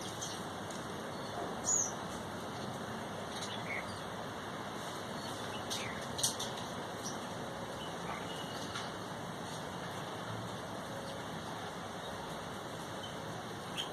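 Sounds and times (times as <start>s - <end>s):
birds chirping: 0.0s - 4.2s, 5.0s - 9.1s, 10.8s - 13.9s
steady background noise: 0.0s - 13.9s.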